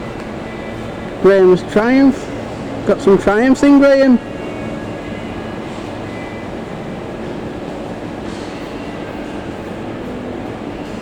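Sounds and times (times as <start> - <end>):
faint steady tones: 0.0 - 11.0
steady rumbling hum: 0.0 - 11.0.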